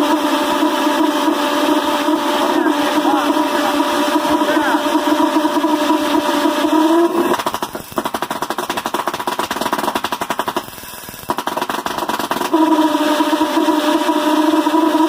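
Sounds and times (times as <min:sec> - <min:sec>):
pulse jet buzzing and popping: 0:00.0 - 0:15.0.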